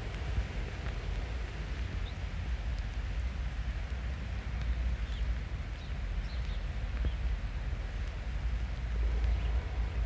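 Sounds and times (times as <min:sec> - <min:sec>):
rain hiss: 0:00.0 - 0:10.0.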